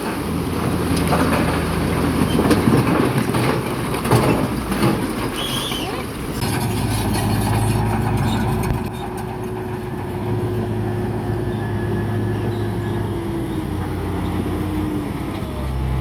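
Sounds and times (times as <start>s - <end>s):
engine whine: 0.0s - 16.0s
heavy diesel engine running: 0.0s - 16.0s.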